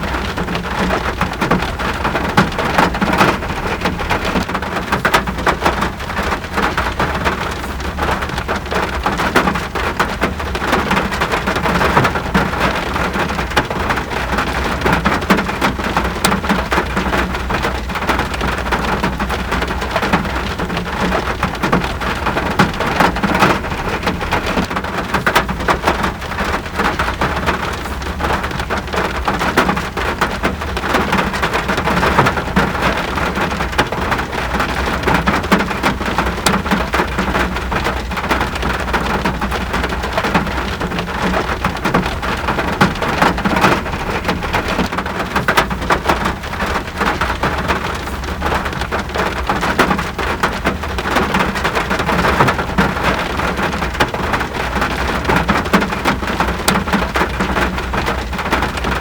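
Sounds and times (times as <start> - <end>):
rain drops ticking on a surface: 0.0 - 59.0.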